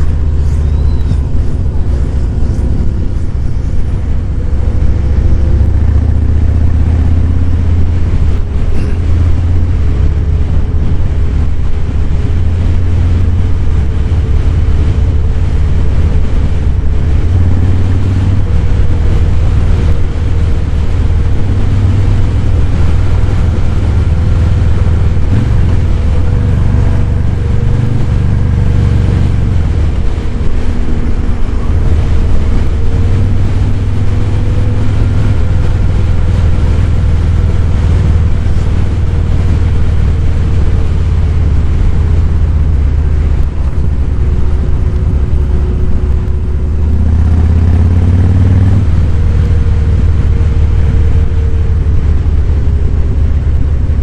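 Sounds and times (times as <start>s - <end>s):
motorcycle engine deep exhaust: 0.0s - 54.0s.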